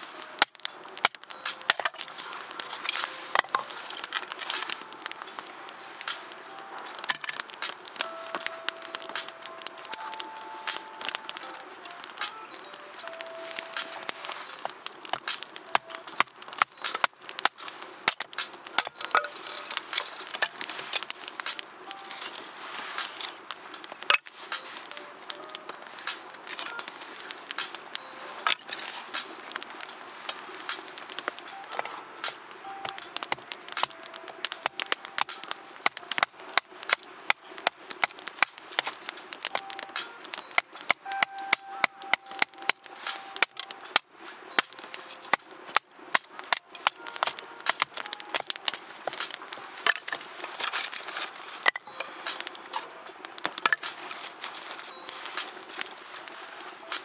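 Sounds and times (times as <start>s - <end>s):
campfire crackling: 0.0s - 57.0s
fire loud crack: 0.0s - 57.0s
kindling snapping and popping: 0.0s - 57.0s.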